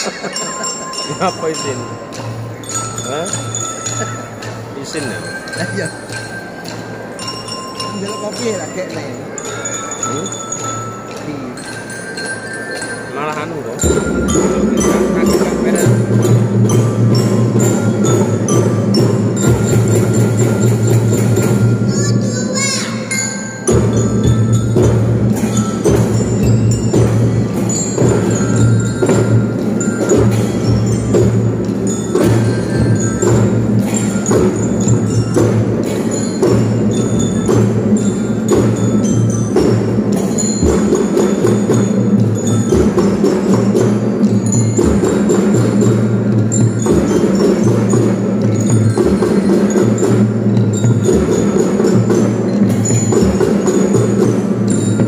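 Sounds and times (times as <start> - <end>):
drums beating: 0.0 - 55.0
ringing bell melody: 0.0 - 55.0.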